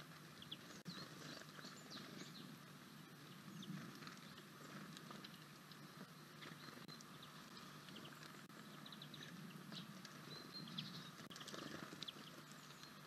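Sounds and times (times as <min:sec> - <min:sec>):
small bird chirps: 0:00.4 - 0:13.0.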